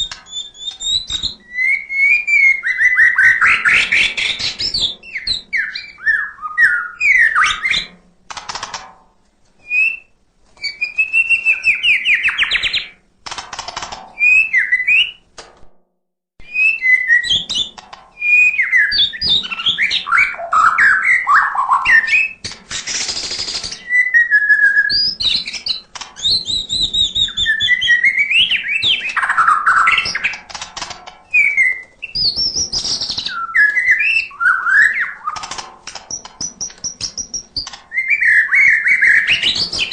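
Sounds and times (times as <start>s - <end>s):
songbird singing: 0.0s - 7.9s, 9.6s - 13.0s, 16.4s - 22.4s, 23.1s - 30.5s, 31.3s - 39.9s.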